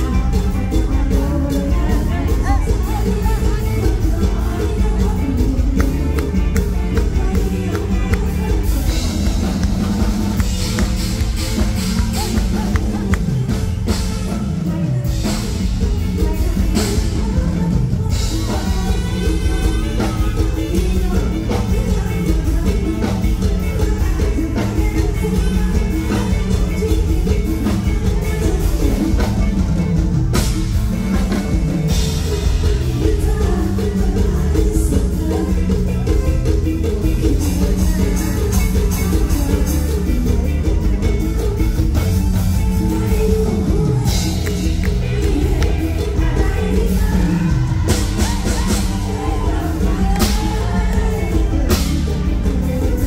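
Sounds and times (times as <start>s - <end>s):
drum kit and bass beat: 0.0s - 53.0s
live band music through pa: 0.0s - 53.0s
woman singing: 0.0s - 53.0s.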